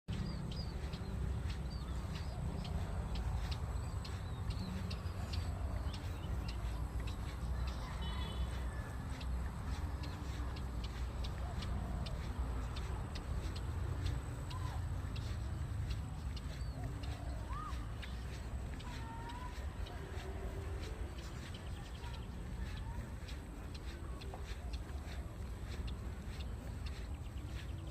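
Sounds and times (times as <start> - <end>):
birds chirping: 0.1 - 27.9.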